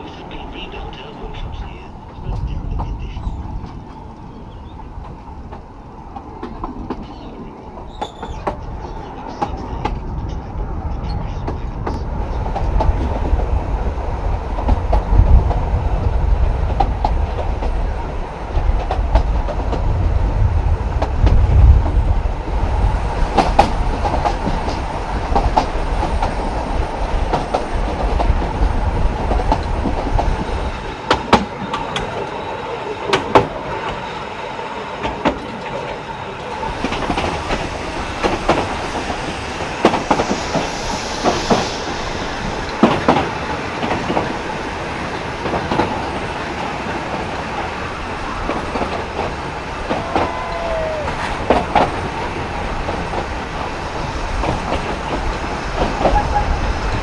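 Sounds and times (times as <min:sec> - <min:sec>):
rumble of wheels on rail: 0:00.0 - 0:57.0.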